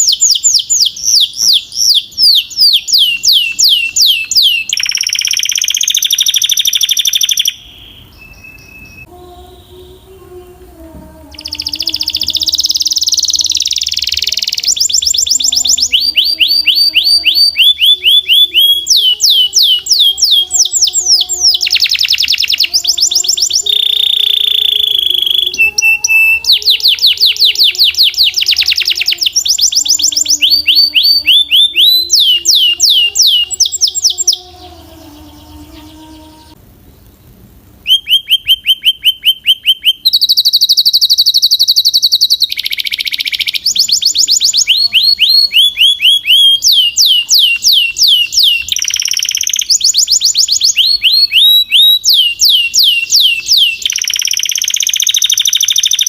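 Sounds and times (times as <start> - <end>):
canary singing trills: 0.0 - 37.1, 37.8 - 56.0.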